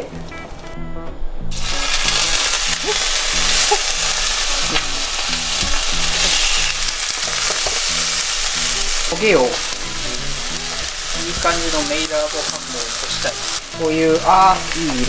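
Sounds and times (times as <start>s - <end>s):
tomatoes sizzling in oil: 1.5s - 15.0s.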